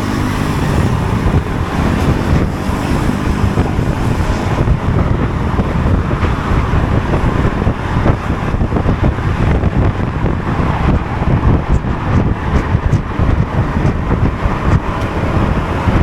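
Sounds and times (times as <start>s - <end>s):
road noise: 0.0s - 16.0s
scooter engine running: 0.0s - 16.0s
wind buffeting microphone: 0.0s - 16.0s.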